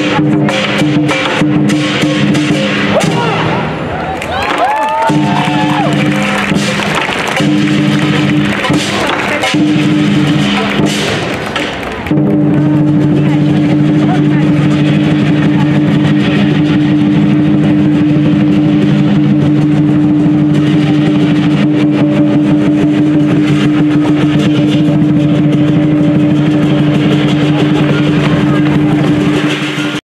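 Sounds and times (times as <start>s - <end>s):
big drum beating: 0.0s - 30.0s
cymbals and gongs clashing: 0.0s - 30.0s
steady low drone: 5.2s - 30.0s.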